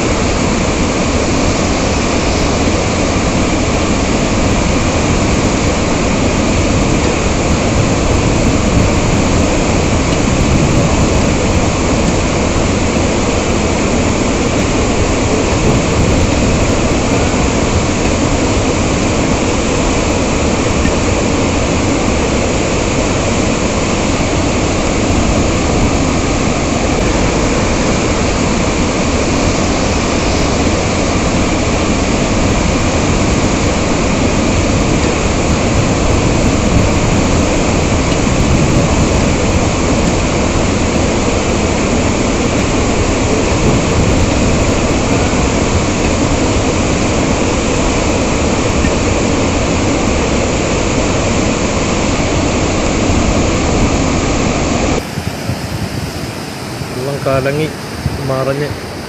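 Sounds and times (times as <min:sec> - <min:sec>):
water rushing through dam spillway: 0:00.0 - 0:59.0.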